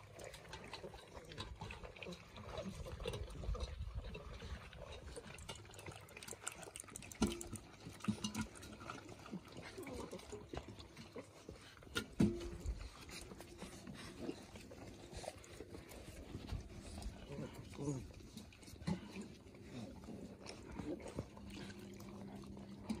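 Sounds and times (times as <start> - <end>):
puppies lapping water: 0.0 - 23.0.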